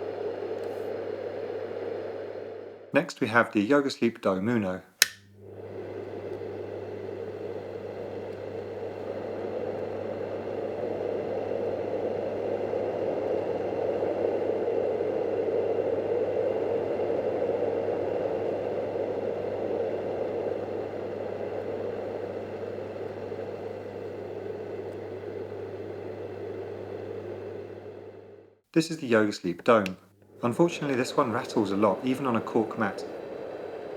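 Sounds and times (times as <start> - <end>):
faint motor hum: 0.0 - 33.9.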